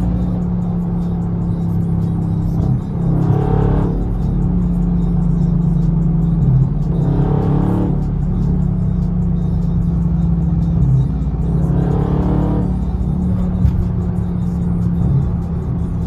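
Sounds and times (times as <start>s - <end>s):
car engine droning: 0.0s - 16.0s
music playing in a car: 0.0s - 16.0s.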